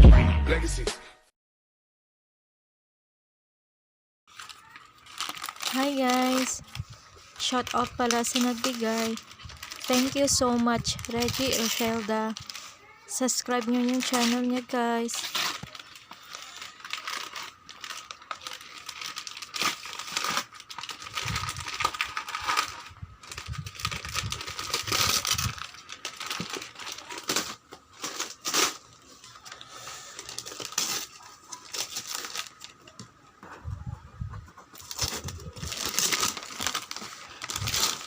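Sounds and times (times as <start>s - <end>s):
packaging ripping: 4.3s - 32.9s, 34.8s - 38.0s
packaging crinkling: 4.3s - 33.1s, 34.8s - 38.0s.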